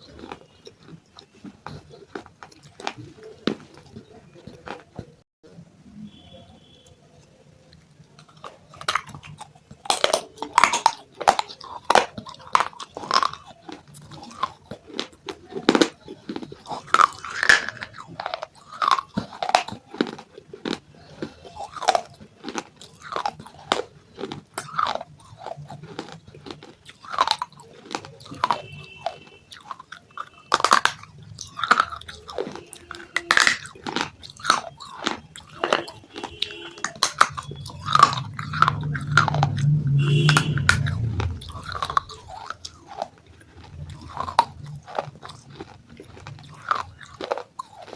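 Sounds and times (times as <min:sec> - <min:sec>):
crunchy chewing: 0:00.0 - 0:05.2, 0:07.7 - 0:47.9.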